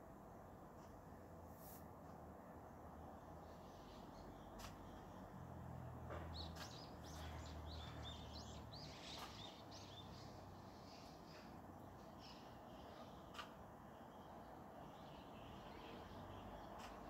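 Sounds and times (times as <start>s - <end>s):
faint birdsong: 2.4s - 17.0s.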